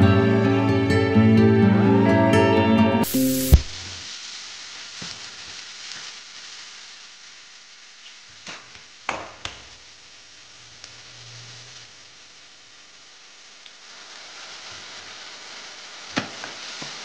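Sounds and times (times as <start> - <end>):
vegetables sizzling in a wok: 3.0 - 17.0.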